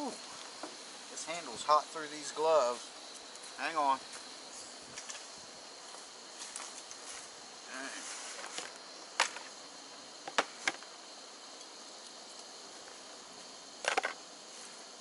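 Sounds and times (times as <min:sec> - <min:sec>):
high-pitched insect buzz: 0:00.0 - 0:15.0.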